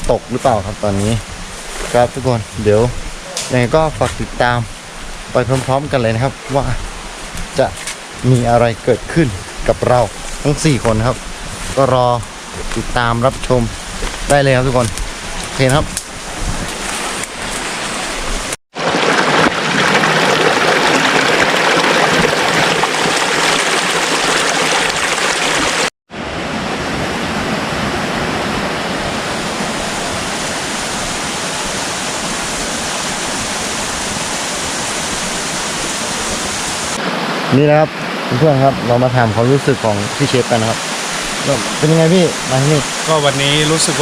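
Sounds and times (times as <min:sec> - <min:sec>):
running water rushing: 0:00.0 - 0:44.0.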